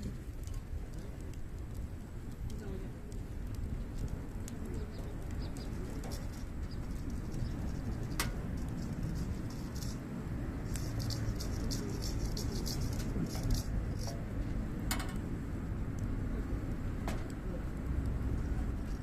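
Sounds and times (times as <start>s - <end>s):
campfire rumble: 0.0s - 19.0s
fire crackling: 0.0s - 19.0s
fire popping: 0.0s - 19.0s.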